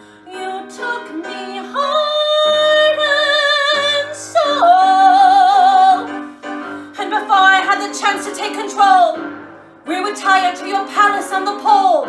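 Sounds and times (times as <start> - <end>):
musical accompaniment: 0.0 - 12.0
woman singing: 0.3 - 6.1, 7.0 - 9.2, 9.9 - 12.0.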